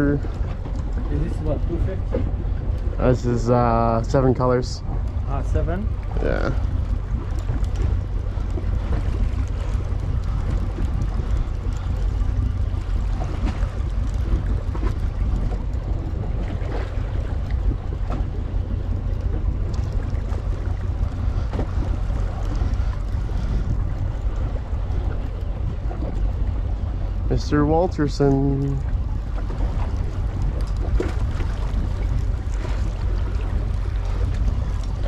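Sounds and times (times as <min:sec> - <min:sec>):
boat motor rumble: 0:00.0 - 0:35.0
water washing around hull: 0:00.0 - 0:35.0
wind on microphone: 0:00.0 - 0:35.0.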